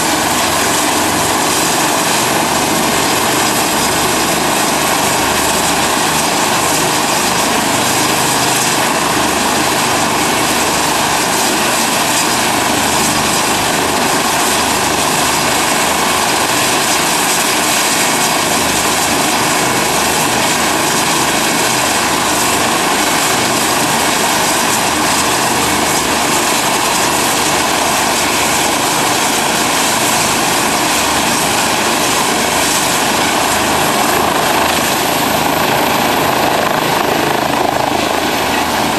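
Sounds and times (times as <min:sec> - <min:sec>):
helicopter turbine and rotor noise: 0:00.0 - 0:38.9.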